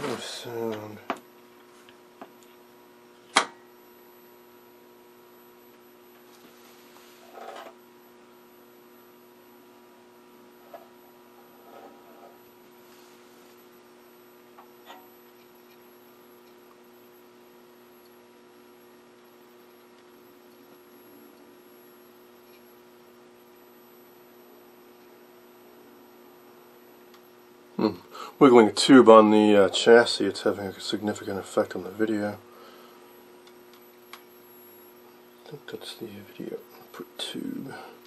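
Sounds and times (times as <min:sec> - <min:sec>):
television electrical hum: 0:00.0 - 0:38.0.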